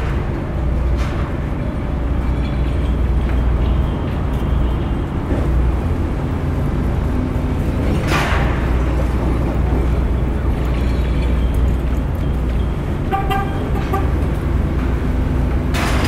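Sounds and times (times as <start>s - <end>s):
heavy machinery engine rumble: 0.0s - 16.0s.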